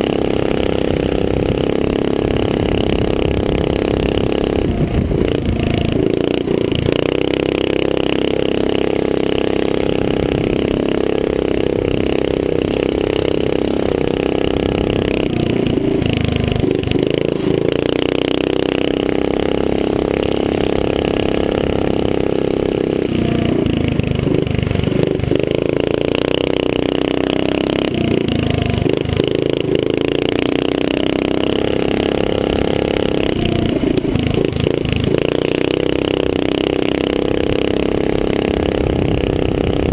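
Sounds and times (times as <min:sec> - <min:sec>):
mini-bike engine revving: 0:00.0 - 0:39.9.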